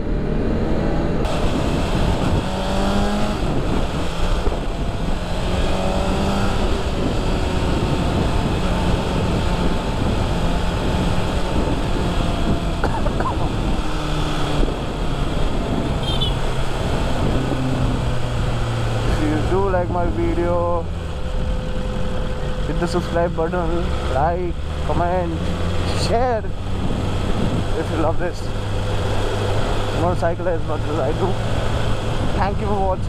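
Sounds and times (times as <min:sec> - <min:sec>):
motorcycle engine revving: 0:00.0 - 0:32.9
steady rushing noise: 0:00.0 - 0:33.0.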